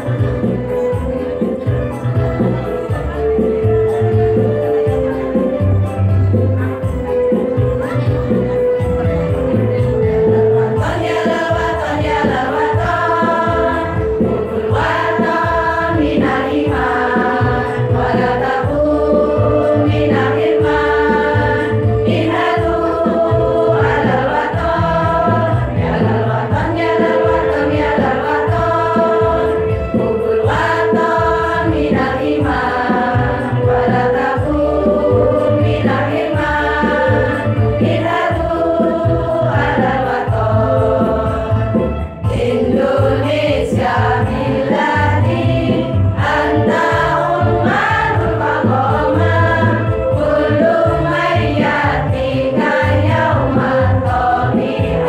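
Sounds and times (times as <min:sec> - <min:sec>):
instrumental backing with low beat: 0:00.0 - 0:55.0
women's choir singing: 0:09.5 - 0:55.0.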